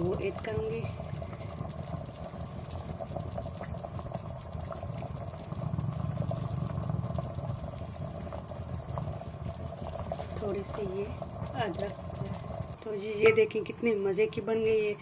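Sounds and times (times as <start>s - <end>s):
gravy bubbling in a pan: 0.0s - 15.0s.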